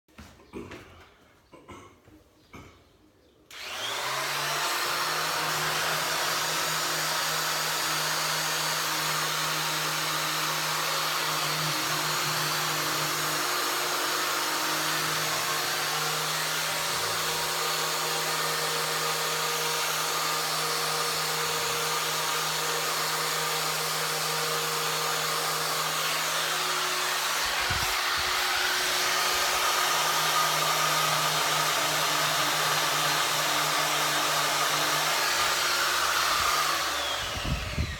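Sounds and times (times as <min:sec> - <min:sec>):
vacuum cleaner motor: 0:03.5 - 0:37.9.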